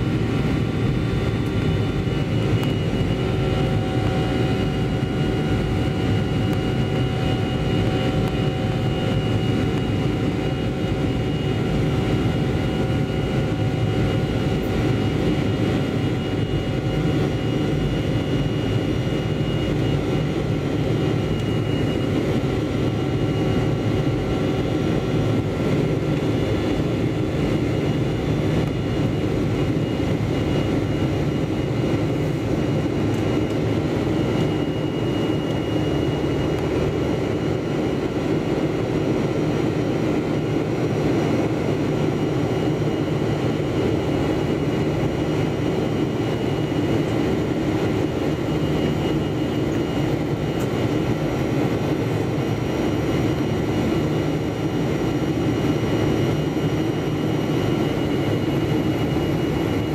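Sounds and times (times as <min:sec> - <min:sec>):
jet engines at climb power: 0:00.0 - 0:59.9.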